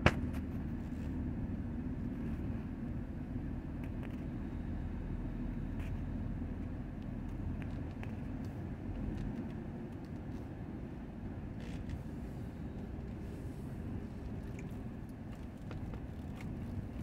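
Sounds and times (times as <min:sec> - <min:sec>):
fire truck engine rumble: 0:00.0 - 0:17.0.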